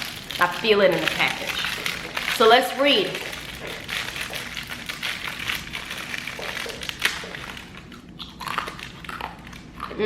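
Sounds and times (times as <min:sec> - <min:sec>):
plastic wrapper crinkling: 0:00.0 - 0:09.8
cookie crunching and chewing: 0:00.0 - 0:10.0.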